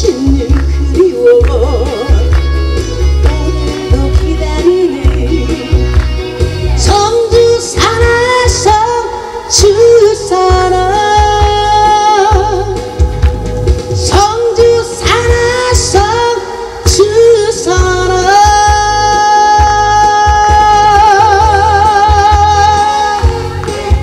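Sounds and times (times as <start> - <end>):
instrumental accompaniment with beat: 0.0 - 24.0
woman singing into microphone: 0.0 - 24.0.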